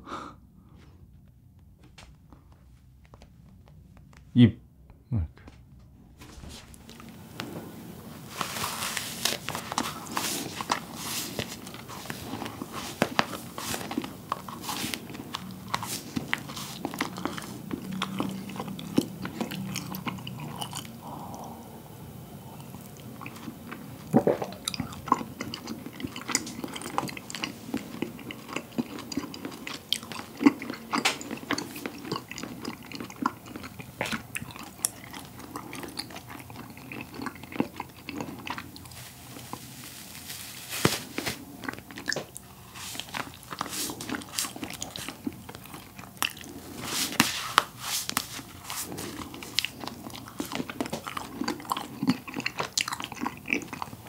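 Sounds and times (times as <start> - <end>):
close-miked chewing: 6.7 - 54.0.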